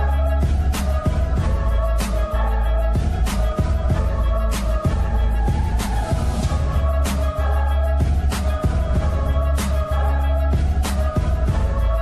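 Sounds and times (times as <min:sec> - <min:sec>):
music with heavy bass and drums: 0:00.0 - 0:12.0.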